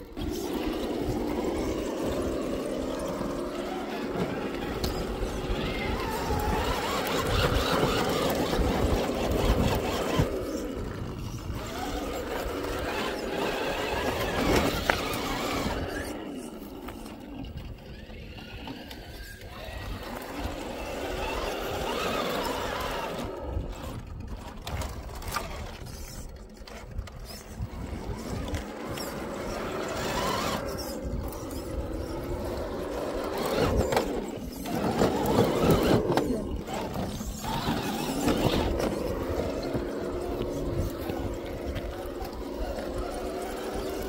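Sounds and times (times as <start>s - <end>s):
toy car electric motor whining: 0.0s - 44.0s.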